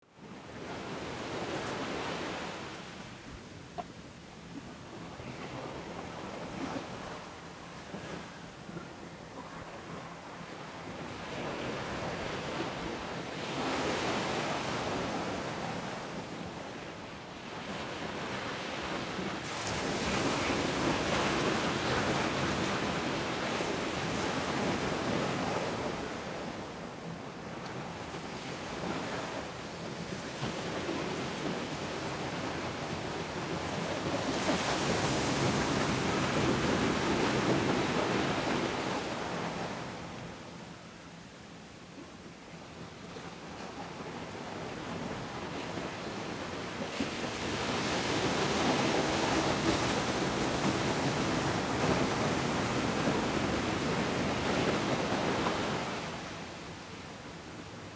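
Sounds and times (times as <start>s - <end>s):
waves breaking on shore: 0.2s - 16.8s, 17.4s - 26.8s, 30.1s - 40.3s, 43.5s - 56.8s.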